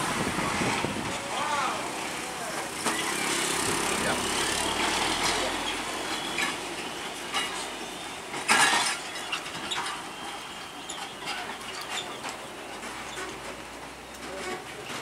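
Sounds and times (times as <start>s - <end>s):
truck wheels clanking over rails: 0.0s - 15.0s.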